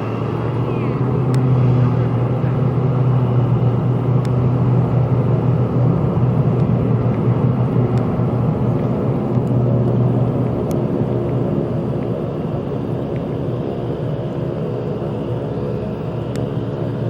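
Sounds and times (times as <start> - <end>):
turboprop engine drone: 0.0 - 17.0.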